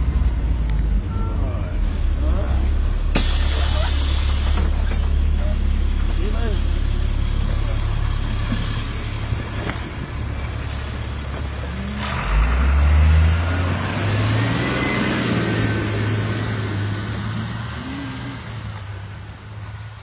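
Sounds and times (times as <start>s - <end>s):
diesel bus engine: 0.0s - 20.0s.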